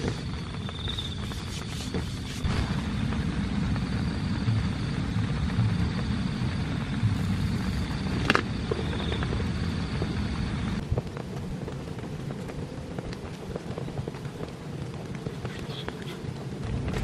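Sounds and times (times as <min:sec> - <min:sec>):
heavy rain on a tent: 0:00.0 - 0:17.0.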